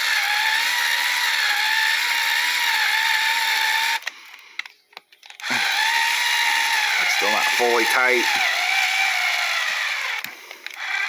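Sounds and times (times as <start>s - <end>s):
small electric motor whining: 0.0s - 4.1s, 5.4s - 11.0s.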